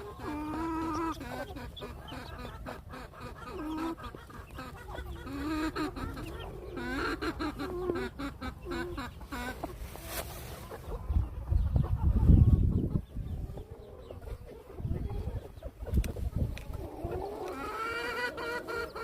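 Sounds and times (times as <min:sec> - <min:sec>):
hen clucking: 0:00.0 - 0:19.0.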